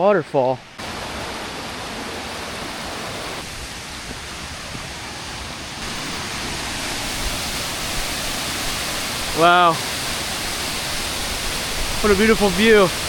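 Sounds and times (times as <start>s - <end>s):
water rushing: 0.1s - 13.0s.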